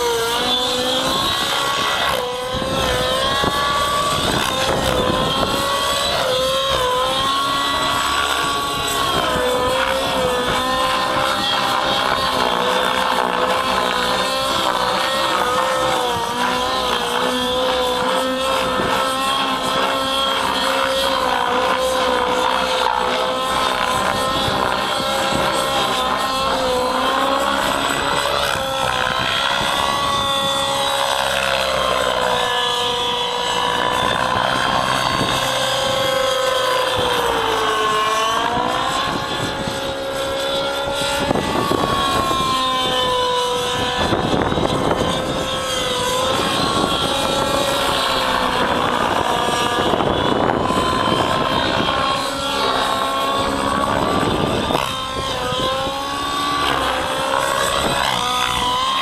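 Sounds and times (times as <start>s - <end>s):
rc helicopter engine and rotor: 0.0s - 59.0s.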